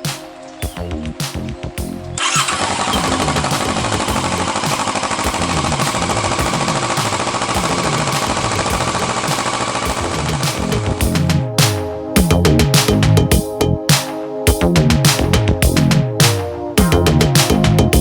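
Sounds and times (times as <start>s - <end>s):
motorcycle engine exhaust beat: 0.6s - 13.8s, 14.5s - 18.0s.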